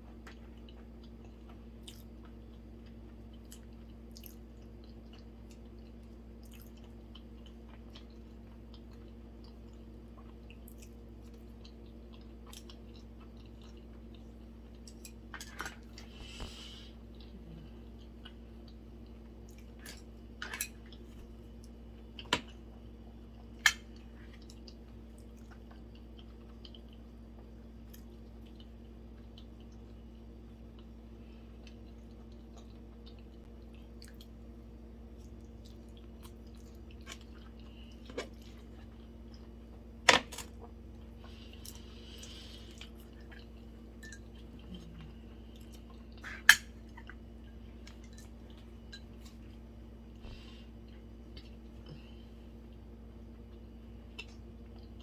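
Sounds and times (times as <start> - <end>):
soft chewing: 0.0 - 55.0
steady low hum: 0.0 - 55.0.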